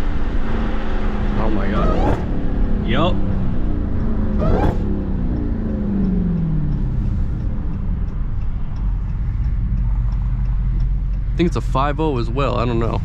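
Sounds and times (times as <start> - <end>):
car engine: 0.0 - 13.0.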